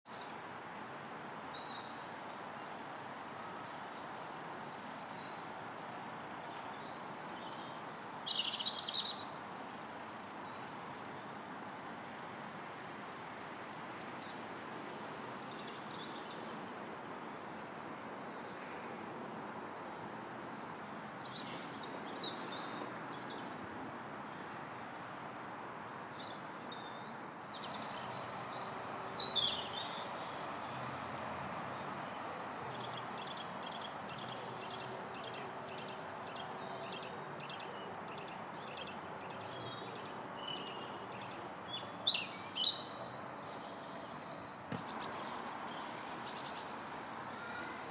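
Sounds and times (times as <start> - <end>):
songbirds chirping: 0.1 - 47.9.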